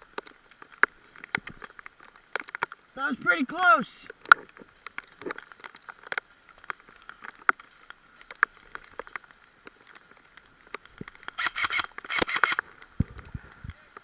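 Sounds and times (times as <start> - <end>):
rain drops patter: 0.0 - 14.0.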